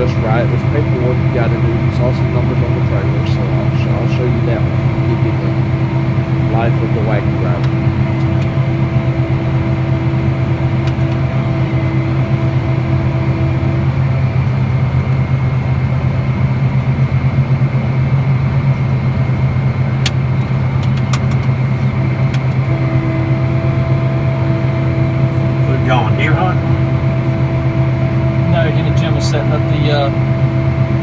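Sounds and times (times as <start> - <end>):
engine droning: 0.0 - 31.0.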